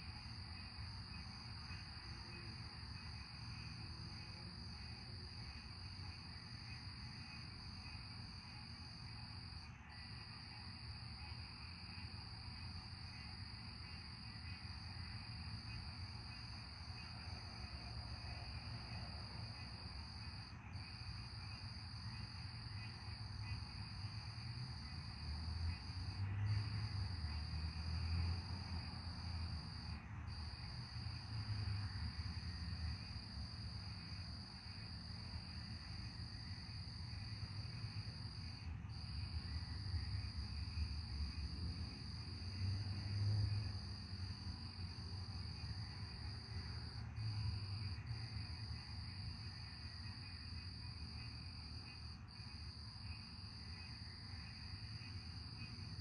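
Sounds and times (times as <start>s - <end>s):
night insects chorus: 0.0s - 56.0s.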